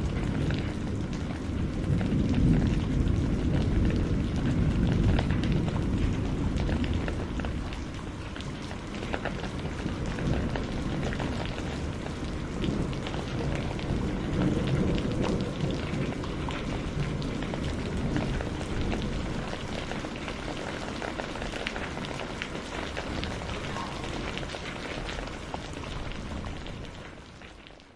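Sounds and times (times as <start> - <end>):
distant thunder rumble: 0.0 - 27.1
rain pattering: 0.0 - 27.9.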